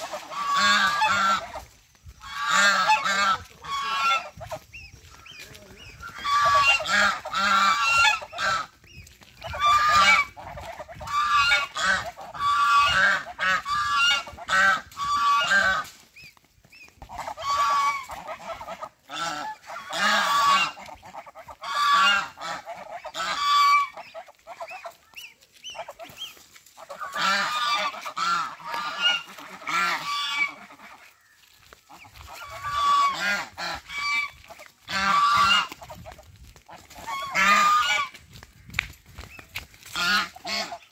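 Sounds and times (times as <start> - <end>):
geese honking: 0.0 - 38.2, 39.4 - 40.9.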